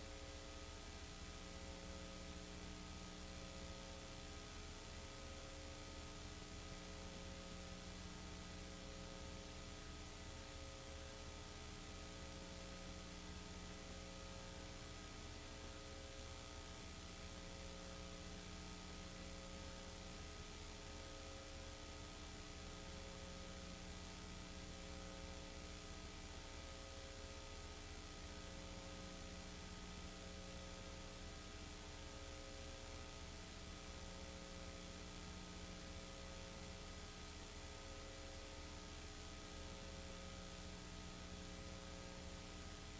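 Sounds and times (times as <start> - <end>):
electrical hum and hiss: 0.0 - 42.9.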